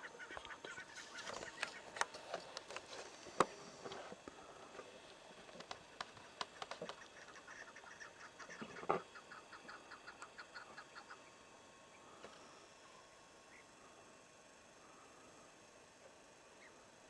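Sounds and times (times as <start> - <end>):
faint bird calls: 0.0 - 2.5, 5.6 - 17.0.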